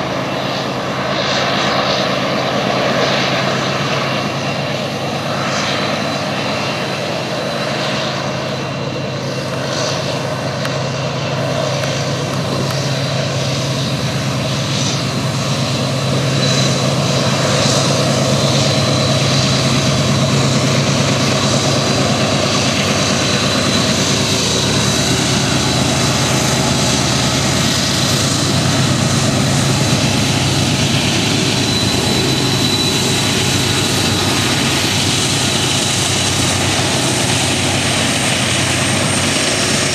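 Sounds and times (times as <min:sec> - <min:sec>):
locomotive engine drone: 0:00.0 - 0:39.9
thin high whine: 0:00.0 - 0:39.9.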